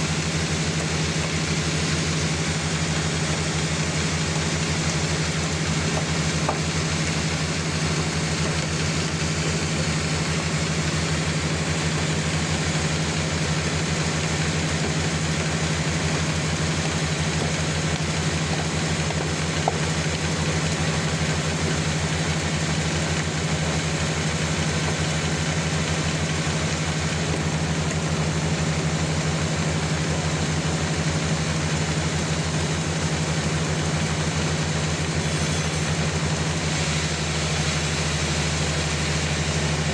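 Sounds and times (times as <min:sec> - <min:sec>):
band sawmill engine running: 0:00.0 - 0:39.9.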